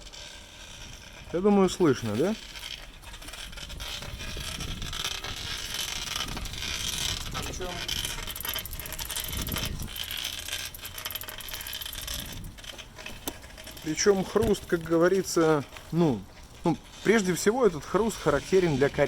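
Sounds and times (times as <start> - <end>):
bicycle hub crunching and clicking: 0.0 - 19.0.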